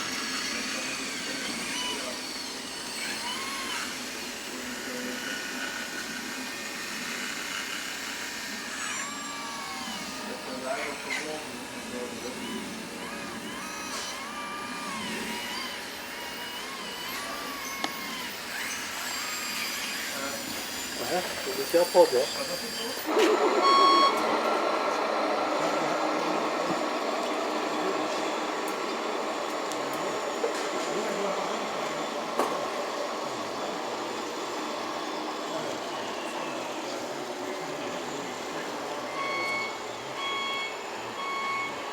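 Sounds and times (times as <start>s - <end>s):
model trucks running: 0.0s - 41.9s
small electric motors whining: 0.0s - 41.9s.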